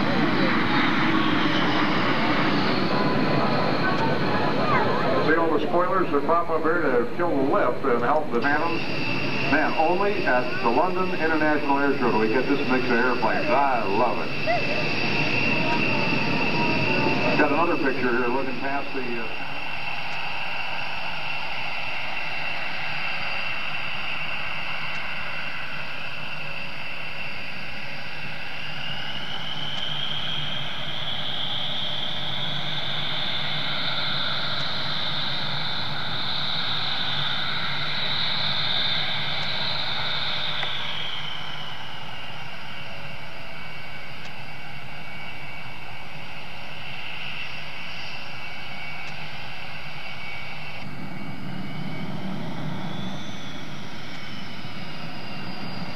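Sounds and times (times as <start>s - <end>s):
jet engines whining: 0.0s - 55.9s.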